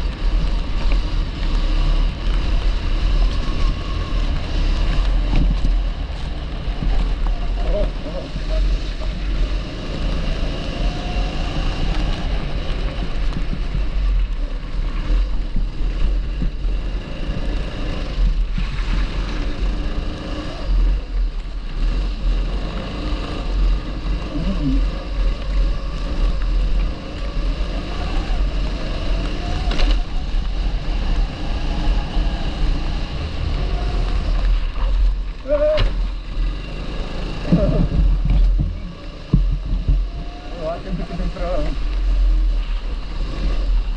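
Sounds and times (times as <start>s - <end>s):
kart engine revving: 0.0s - 43.9s
wind rumble on microphone: 0.0s - 43.9s.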